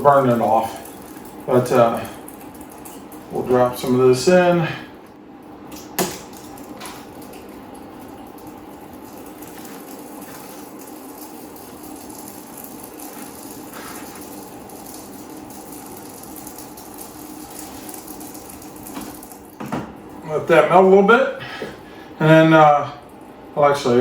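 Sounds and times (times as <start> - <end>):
furnace humming: 0.0 - 24.0.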